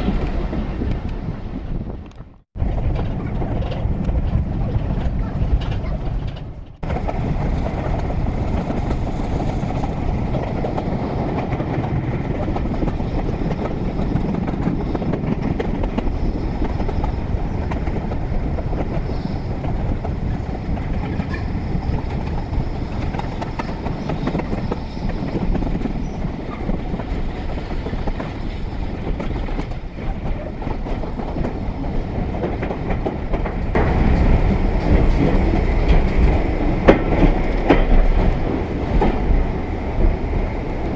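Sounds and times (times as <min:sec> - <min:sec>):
train rumbling along track: 0:00.0 - 0:40.9.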